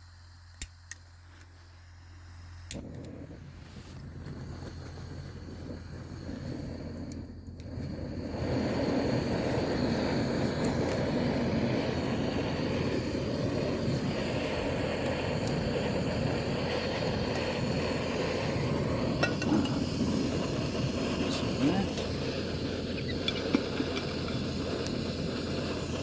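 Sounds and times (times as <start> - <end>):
gas stove burner burning: 0.0 - 26.0.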